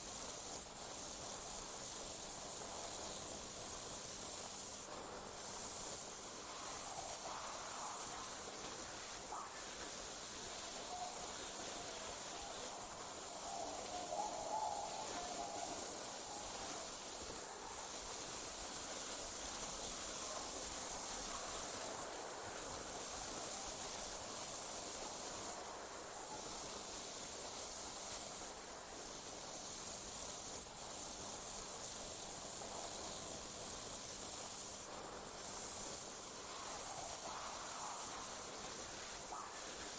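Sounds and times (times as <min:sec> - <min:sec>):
crickets trilling: 0:00.0 - 0:25.5, 0:26.2 - 0:39.9.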